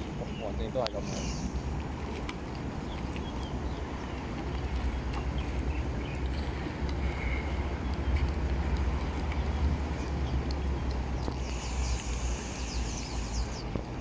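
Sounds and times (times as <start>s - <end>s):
outdoor waterside noise: 0.0s - 14.0s
wind buffeting microphone: 0.0s - 14.0s.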